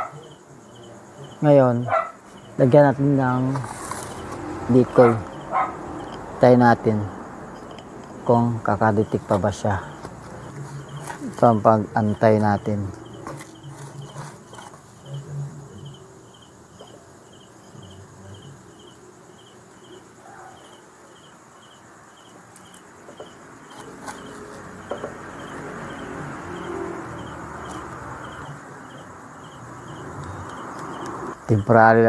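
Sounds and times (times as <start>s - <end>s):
insect chirping: 0.0s - 32.0s.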